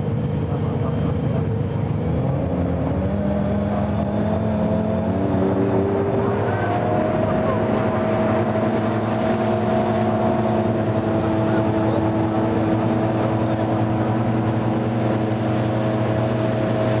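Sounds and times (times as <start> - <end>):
motorboat engine running: 0.0 - 17.0
wind: 0.0 - 17.0
water rushing: 1.4 - 17.0.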